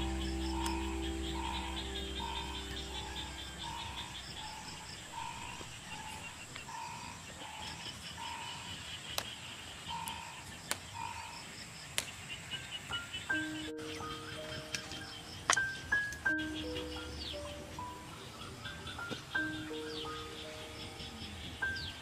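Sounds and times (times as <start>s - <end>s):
frog calling: 0.0s - 11.6s, 12.2s - 21.8s
chirring insect chorus: 0.0s - 22.0s.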